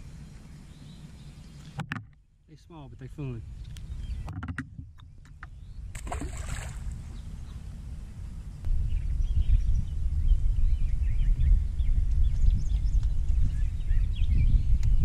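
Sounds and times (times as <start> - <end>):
wind buffeting microphone: 2.8 - 15.0.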